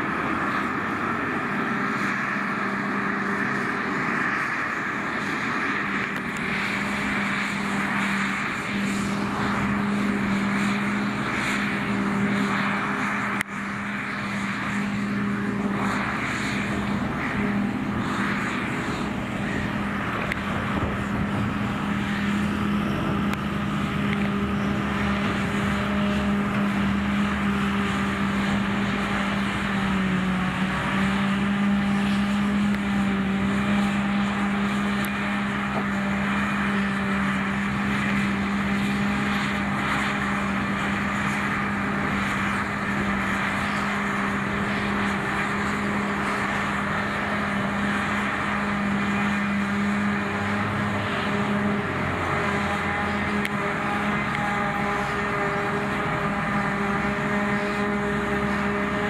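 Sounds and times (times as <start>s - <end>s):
forage harvester machine drone: 0.0s - 59.0s.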